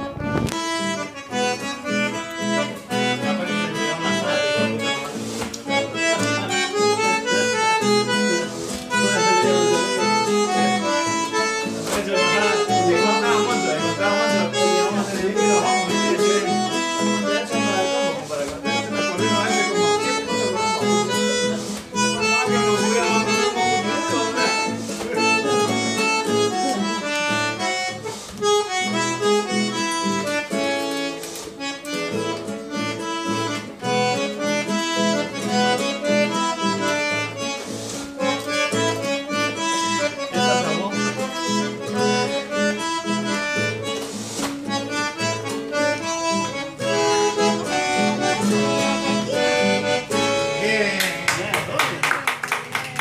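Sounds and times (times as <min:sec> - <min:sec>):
bandoneon playing: 0:00.0 - 0:51.0
acoustic guitar plucking: 0:00.0 - 0:51.8.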